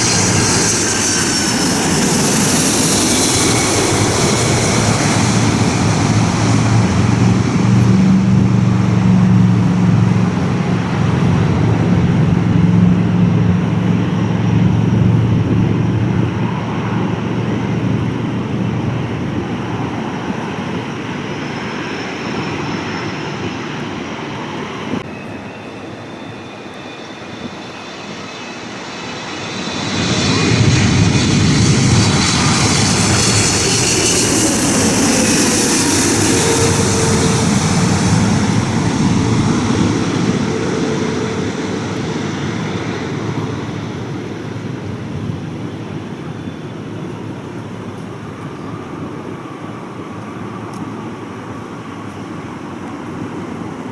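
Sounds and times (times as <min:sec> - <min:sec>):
jet airliner passing: 0:00.0 - 0:53.9.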